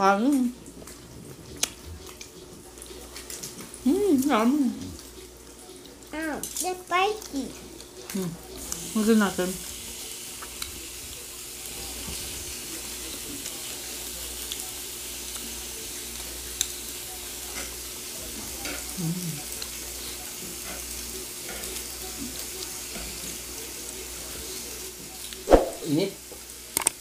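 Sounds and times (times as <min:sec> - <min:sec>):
meat sizzling on a hot grill: 0:00.0 - 0:27.0.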